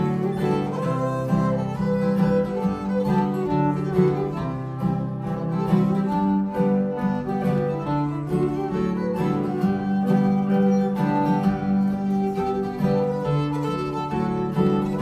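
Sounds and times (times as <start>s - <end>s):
acoustic guitar strumming: 0.0s - 15.0s
fiddle tune: 0.0s - 15.0s.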